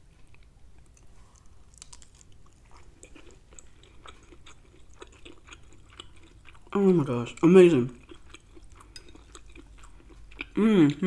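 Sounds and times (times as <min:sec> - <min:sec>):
person chewing: 0:00.1 - 0:11.0.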